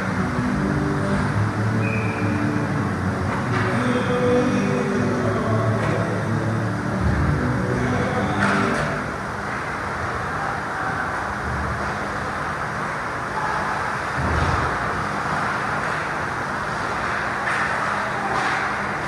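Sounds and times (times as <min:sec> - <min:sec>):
steady rumbling hum: 0:00.0 - 0:19.0.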